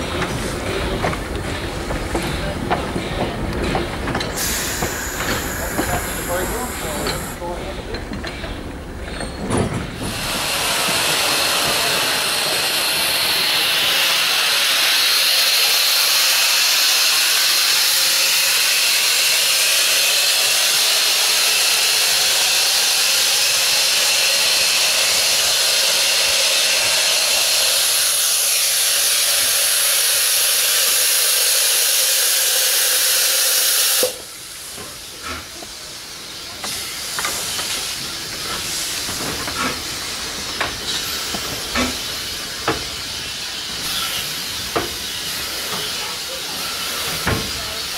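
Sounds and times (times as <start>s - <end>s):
locomotive venting steam: 0.0s - 47.9s.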